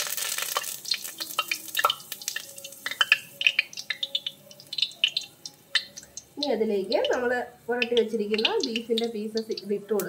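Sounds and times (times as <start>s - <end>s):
leaves popping in hot oil: 0.0s - 10.0s
oil frying hiss: 0.0s - 10.0s.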